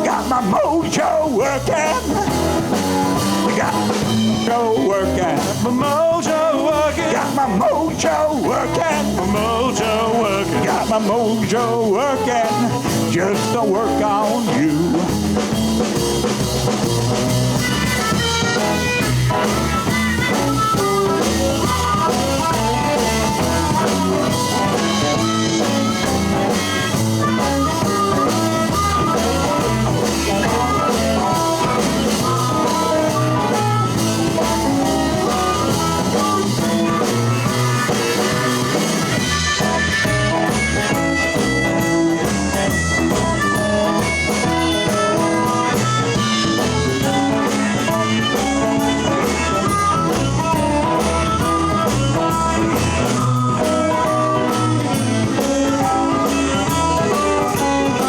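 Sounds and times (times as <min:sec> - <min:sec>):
drum kit: 0:00.0 - 0:58.0
electric guitar: 0:00.0 - 0:58.0
live blues band playing: 0:00.0 - 0:58.0.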